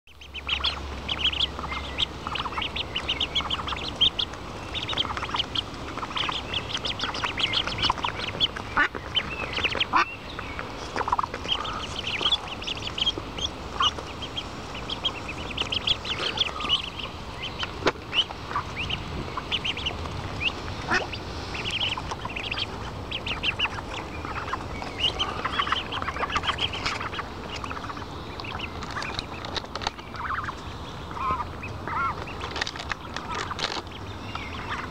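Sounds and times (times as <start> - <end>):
ducklings peeping: 0.1 - 34.9.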